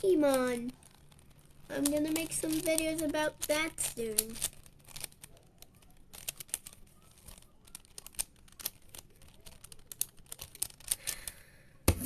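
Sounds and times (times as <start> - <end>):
plastic puzzle cube clicking: 0.2 - 11.4.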